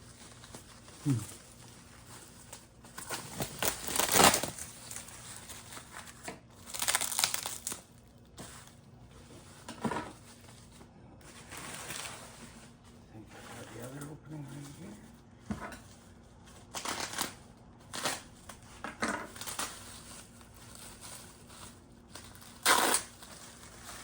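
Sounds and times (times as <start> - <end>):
packing material crinkling: 0.0 - 15.2, 15.8 - 24.0.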